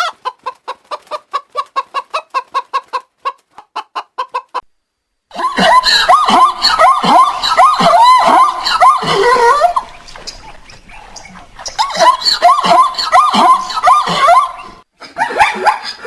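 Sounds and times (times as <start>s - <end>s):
chickens clucking: 0.0s - 4.7s, 5.6s - 16.0s.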